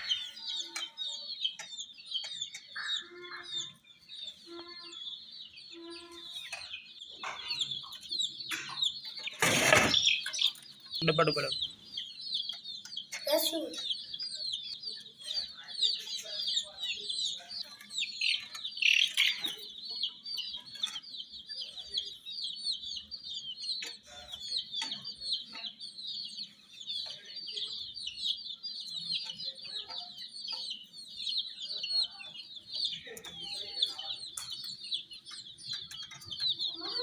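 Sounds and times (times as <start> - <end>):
baby chicks peeping: 0.0 - 37.0.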